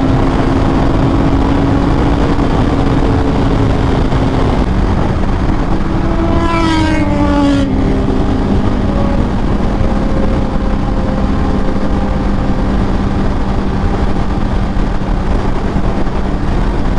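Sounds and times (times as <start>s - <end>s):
motorcycle engine drone: 0.0s - 16.9s
wind rush: 0.0s - 16.9s.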